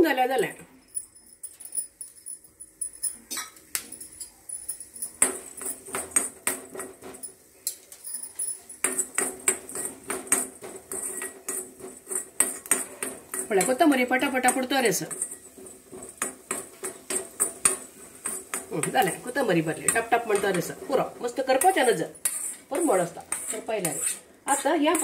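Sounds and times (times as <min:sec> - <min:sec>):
seeds crackling and popping in pan: 0:00.9 - 0:25.0
spoon scraping pan: 0:03.4 - 0:25.0.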